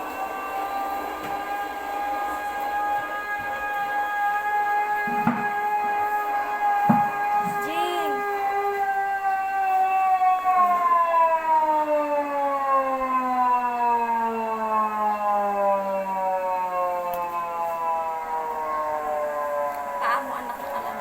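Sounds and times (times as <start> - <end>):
warning siren winding down: 0.0 - 21.0.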